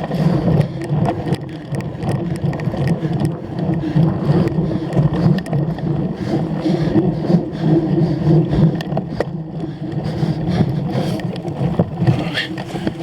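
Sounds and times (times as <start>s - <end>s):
bike rattling clicks: 0.0s - 13.0s
bike tyres rumbling: 0.0s - 13.0s.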